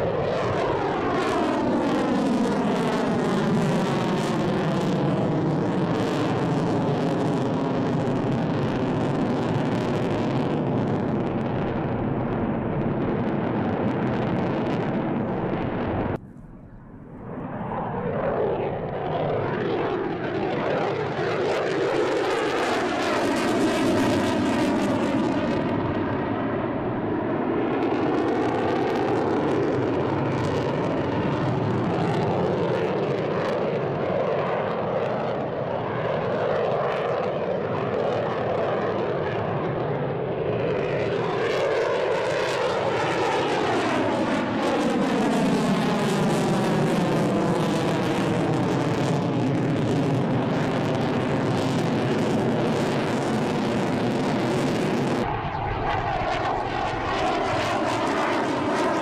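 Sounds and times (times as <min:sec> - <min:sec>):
jet flying past: 0:00.0 - 0:59.0.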